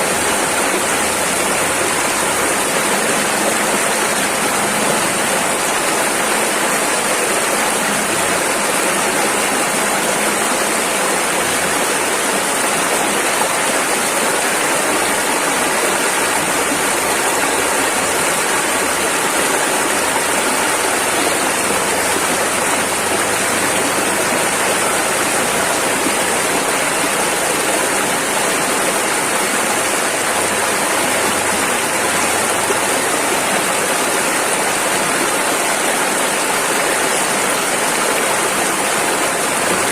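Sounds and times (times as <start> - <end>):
rushing river rapids: 0.0 - 39.9.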